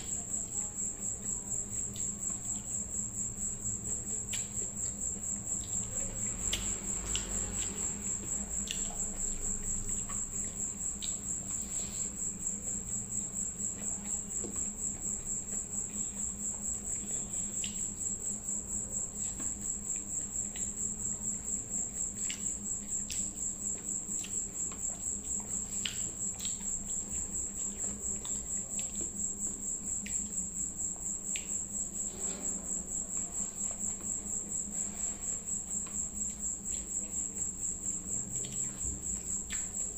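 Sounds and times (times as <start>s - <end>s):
high-pitched cricket trill: 0.0s - 39.9s
mouth clicks and smacks eating: 3.9s - 32.1s, 32.8s - 39.9s.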